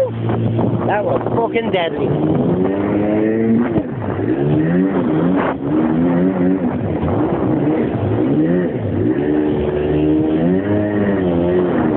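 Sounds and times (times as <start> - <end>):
jet ski engine revving: 0.0 - 11.9.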